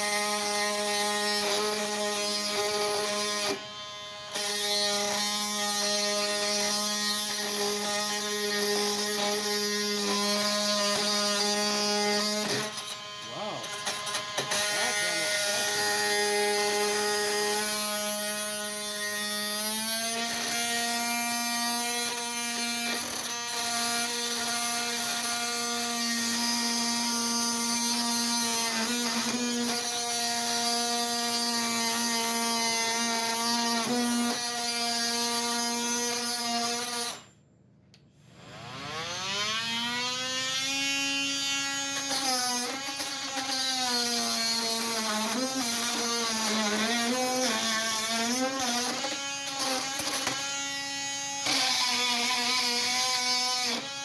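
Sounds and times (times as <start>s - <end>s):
blade cutting screws in wood: 0.0s - 37.3s, 38.6s - 54.0s
oscillating multi-tool buzzing: 0.0s - 37.4s, 38.4s - 54.0s.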